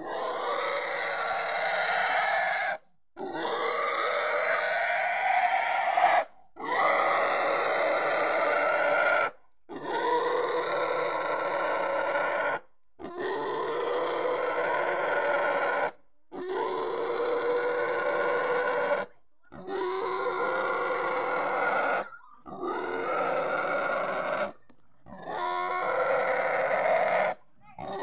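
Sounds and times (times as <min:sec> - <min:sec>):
pig squealing: 0:00.0 - 0:28.0.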